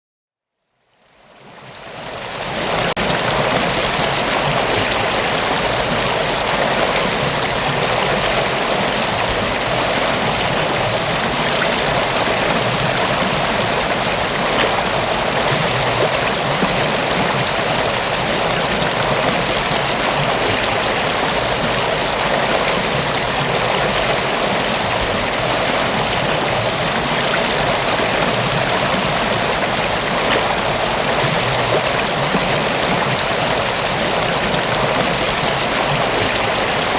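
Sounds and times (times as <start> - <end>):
waterfall rushing: 1.6 - 36.9.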